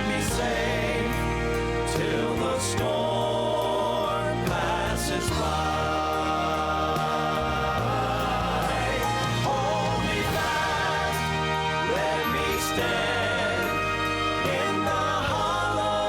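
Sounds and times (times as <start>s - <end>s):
bass line: 0.0s - 16.0s
gospel music with singing: 0.0s - 16.0s.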